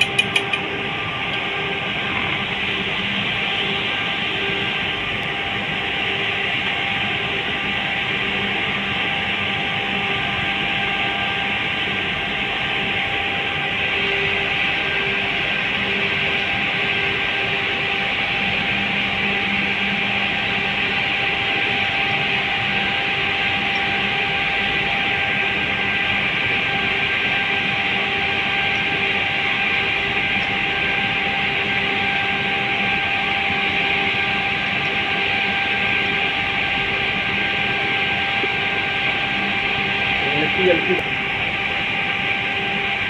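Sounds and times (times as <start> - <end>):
constant machinery hum: 0.0 - 43.0.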